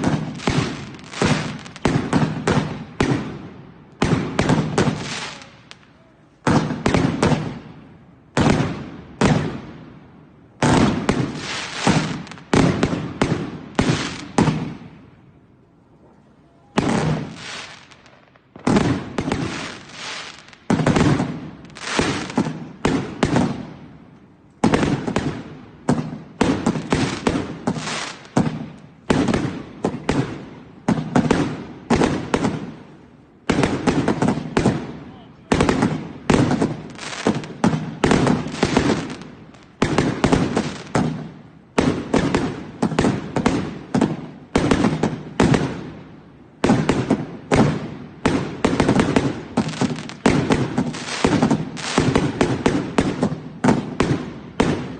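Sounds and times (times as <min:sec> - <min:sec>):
fireworks bangs: 0:00.0 - 0:15.2, 0:16.5 - 0:54.9.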